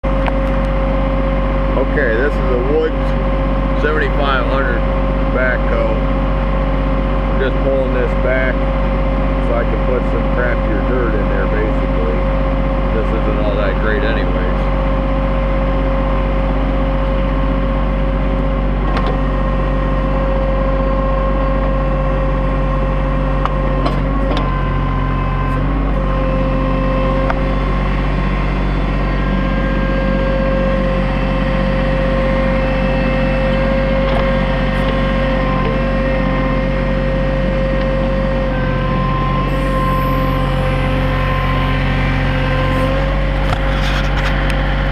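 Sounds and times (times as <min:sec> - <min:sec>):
steady whine: 0:00.0 - 0:44.9
tractor diesel engine running: 0:00.0 - 0:44.9.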